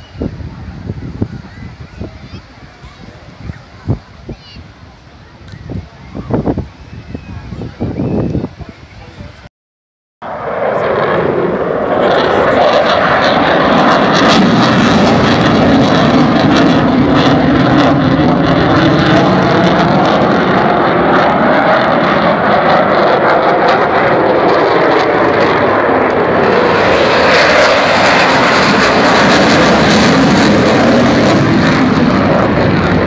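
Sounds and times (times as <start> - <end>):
aircraft engine flying overhead: 0.0 - 9.5, 10.2 - 33.0.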